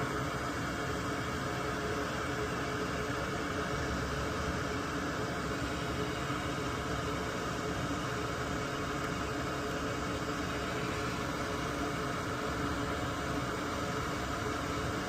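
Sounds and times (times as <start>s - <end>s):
electric fan whirring: 0.0s - 15.0s.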